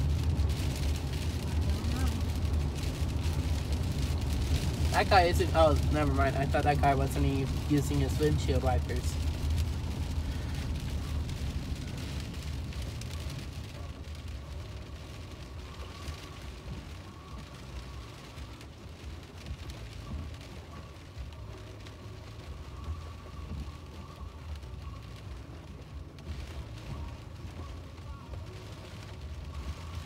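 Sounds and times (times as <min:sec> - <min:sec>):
heavy rain drumming on car roof: 0:00.0 - 0:30.0
moving car rumble: 0:00.0 - 0:30.0.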